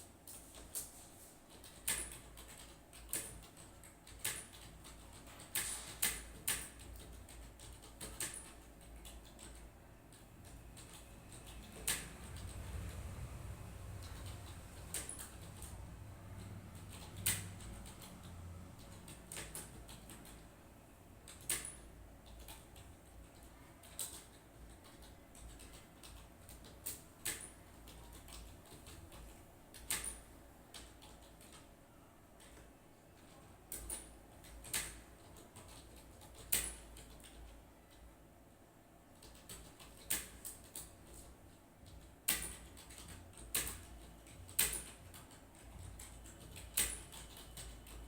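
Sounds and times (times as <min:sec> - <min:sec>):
faint low room hum: 0:00.0 - 0:48.0
keyboard keystrokes: 0:01.5 - 0:13.0, 0:13.9 - 0:20.5, 0:21.2 - 0:31.7, 0:32.4 - 0:38.1, 0:39.2 - 0:48.0.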